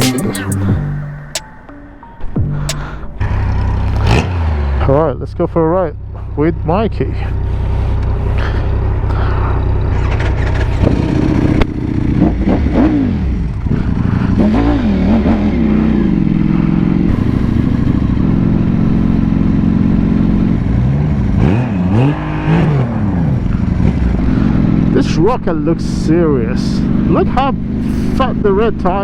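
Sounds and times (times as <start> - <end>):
motorcycle engines revving: 3.2 - 29.0.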